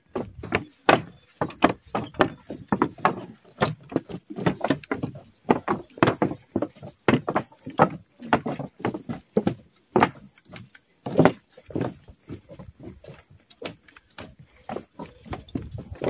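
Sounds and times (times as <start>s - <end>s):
footsteps on wooden boards: 0.0s - 16.0s.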